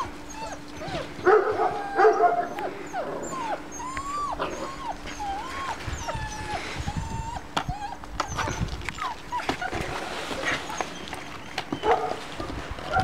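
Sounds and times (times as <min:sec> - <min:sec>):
puppies whimpering: 0:00.0 - 0:13.0
puppies yipping: 0:00.0 - 0:13.0.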